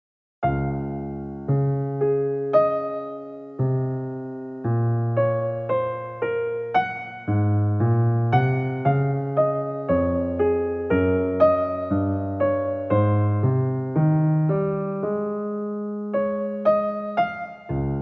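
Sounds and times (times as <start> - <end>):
electric piano melody: 0.4 - 18.0.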